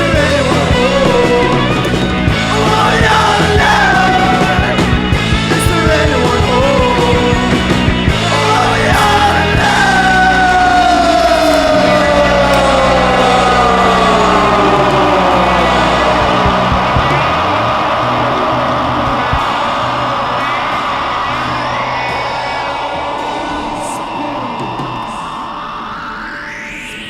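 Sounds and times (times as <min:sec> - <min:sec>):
rock music with vocals: 0:00.0 - 0:27.0.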